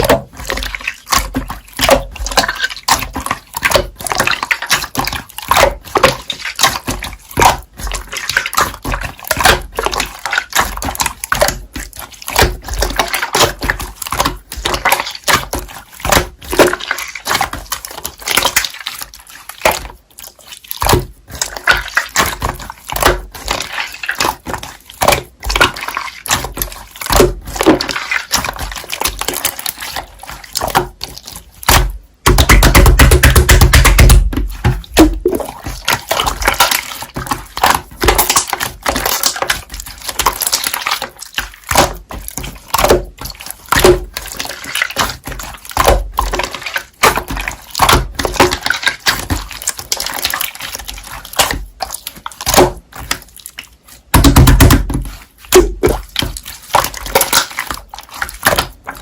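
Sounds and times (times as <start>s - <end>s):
slime squelching: 0.0s - 59.0s.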